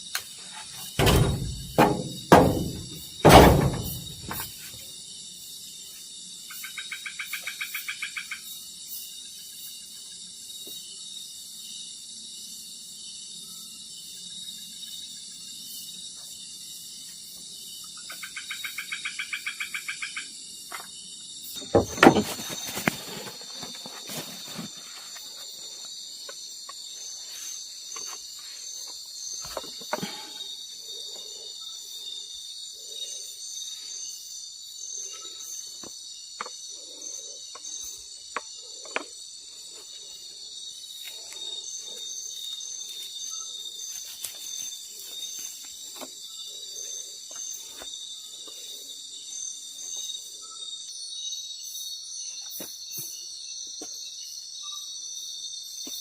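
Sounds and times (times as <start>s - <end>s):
insects chirping at night: 0.0s - 56.0s.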